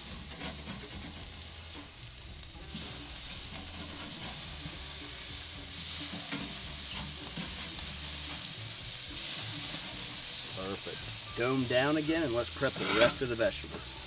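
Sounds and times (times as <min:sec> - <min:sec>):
burger patties sizzling on grill: 0:00.0 - 0:14.0.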